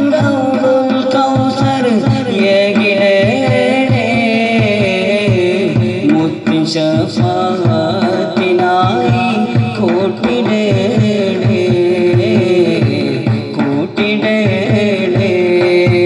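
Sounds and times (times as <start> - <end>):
hand drum beat: 0.0 - 16.0
men singing together: 0.0 - 16.0.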